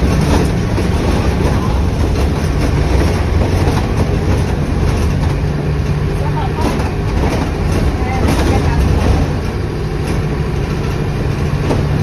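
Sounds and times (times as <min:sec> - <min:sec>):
bus diesel engine rumble: 0:00.0 - 0:12.0.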